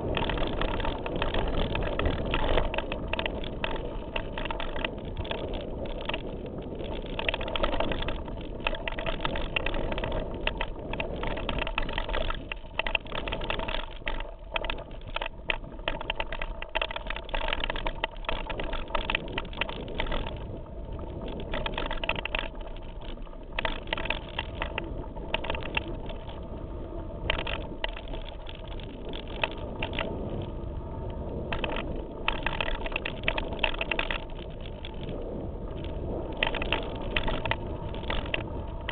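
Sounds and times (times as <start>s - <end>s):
bike rattling and knocking: 0.0s - 26.6s, 27.2s - 38.9s.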